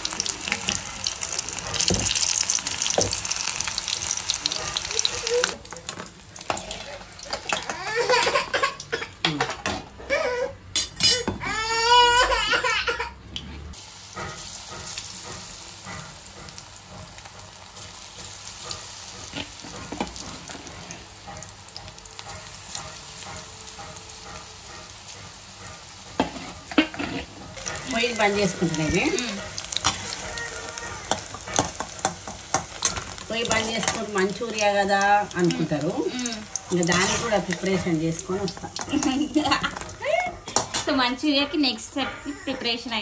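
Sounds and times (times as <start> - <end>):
oil sizzling: 0.0 - 9.2, 13.7 - 41.4.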